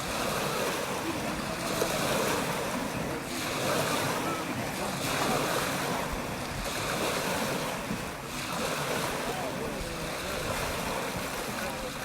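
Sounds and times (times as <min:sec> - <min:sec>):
faint voices: 0:00.0 - 0:12.0
lake water: 0:00.0 - 0:12.0.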